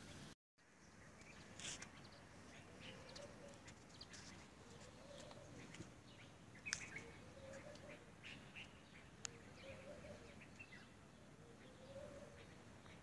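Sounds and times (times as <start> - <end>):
small birds chirping faintly: 0.0 - 13.0.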